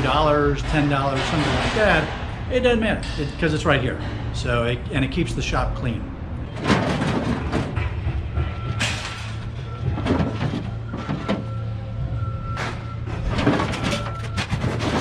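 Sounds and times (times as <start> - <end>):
scrap metal clanking and rattling: 0.0 - 4.5, 6.4 - 11.7, 12.5 - 15.0.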